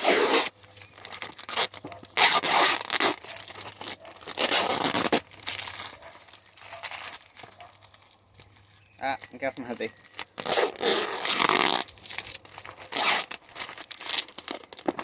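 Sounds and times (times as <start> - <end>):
packaging tearing and crinkling: 0.0 - 15.0.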